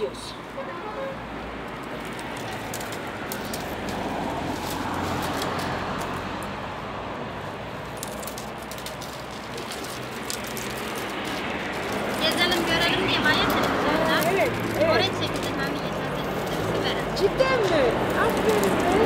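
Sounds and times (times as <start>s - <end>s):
rushing background noise: 0.0s - 19.0s
reed canes crackling and ticking: 1.3s - 19.0s.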